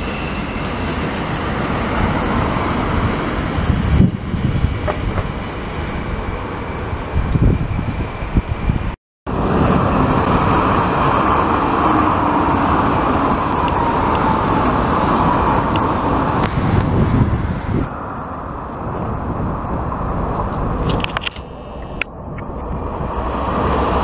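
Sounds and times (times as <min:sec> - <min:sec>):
train wheels rumbling on rail: 0:00.0 - 0:24.0
train whine: 0:00.0 - 0:24.0.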